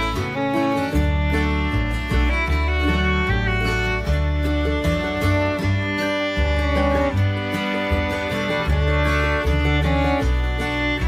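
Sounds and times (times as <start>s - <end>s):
bass line: 0.0s - 11.0s
instrumental music with strings: 0.0s - 11.0s.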